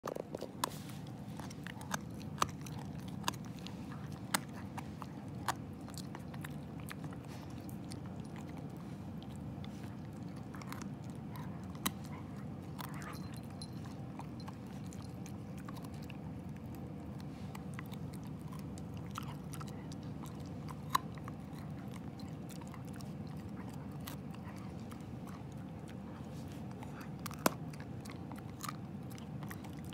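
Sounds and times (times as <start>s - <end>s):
dog gnawing chew stick: 0.0s - 29.9s
teeth crunching clicks: 1.4s - 26.0s, 26.6s - 29.9s.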